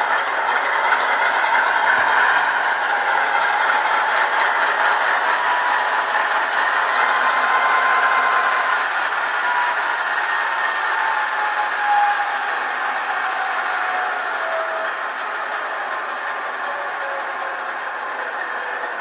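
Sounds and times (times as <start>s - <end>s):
model diesel engine sound: 0.0s - 19.0s.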